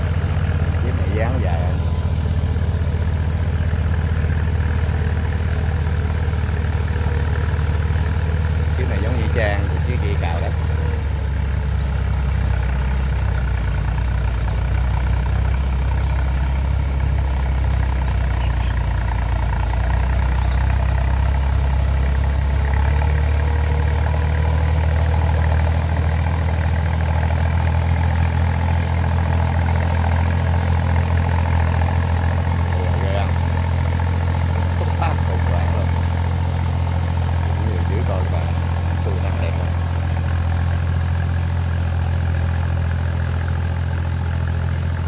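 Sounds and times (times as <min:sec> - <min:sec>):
tractor engine under load: 0:00.0 - 0:45.0.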